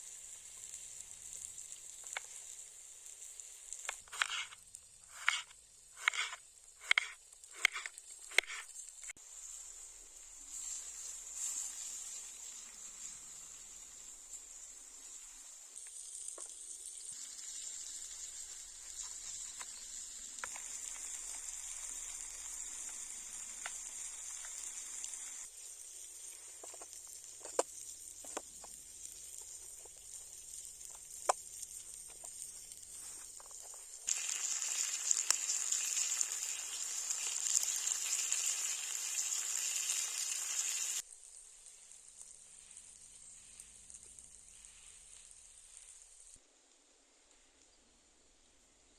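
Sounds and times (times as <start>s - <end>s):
fire pops and crackles: 0.0s - 46.4s
meat sizzling on hot stone: 0.0s - 46.4s.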